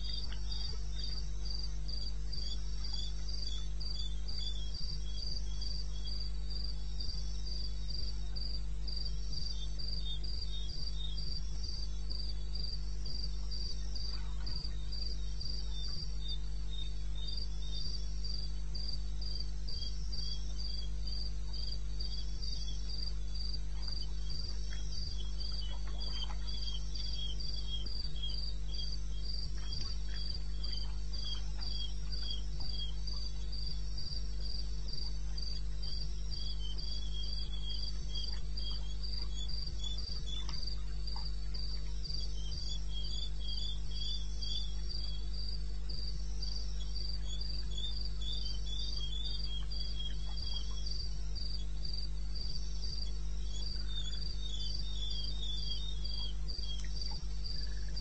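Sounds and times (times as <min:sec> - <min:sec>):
high cricket chirping: 0:00.0 - 0:58.0
lower cricket chirping: 0:00.0 - 0:58.0
steady low hum: 0:00.0 - 0:58.0.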